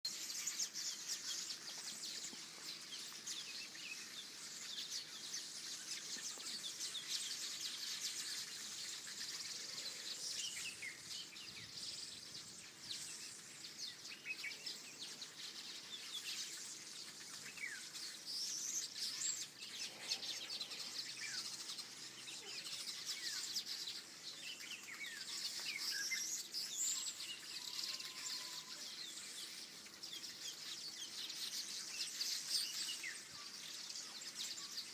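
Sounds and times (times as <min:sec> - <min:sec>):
birds chirping and singing: 0:00.0 - 0:34.9
steady background hiss: 0:00.1 - 0:34.9.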